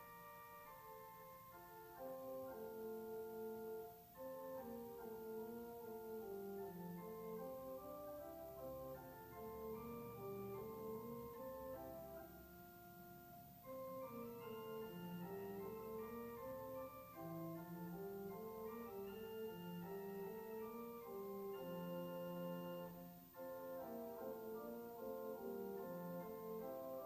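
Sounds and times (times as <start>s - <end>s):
organ playing sustained chords: 0.0s - 27.0s.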